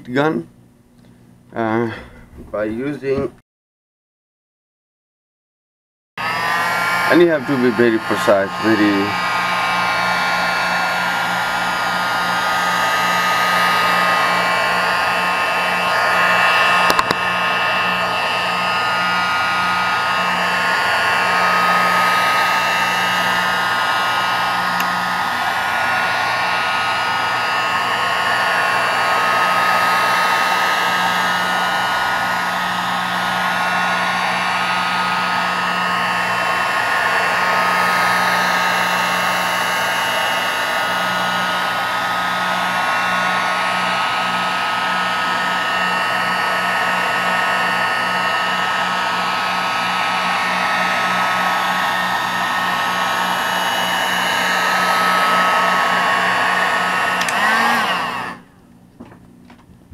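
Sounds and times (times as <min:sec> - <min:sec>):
heat gun fan whine: 0:06.2 - 0:59.9.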